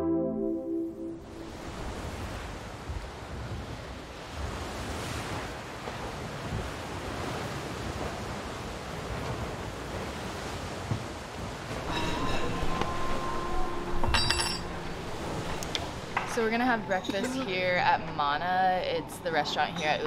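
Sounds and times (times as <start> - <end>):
ocean waves breaking: 0.4 - 20.0.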